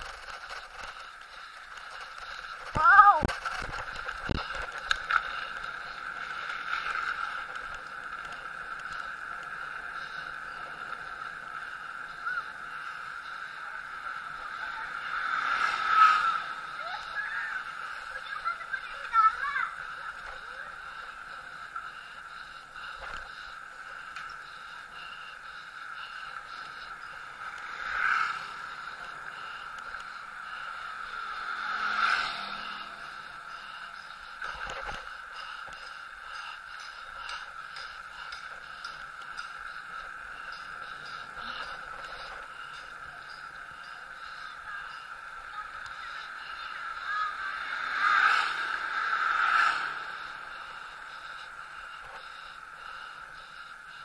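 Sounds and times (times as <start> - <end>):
bicycle whirring: 0.0 - 54.0.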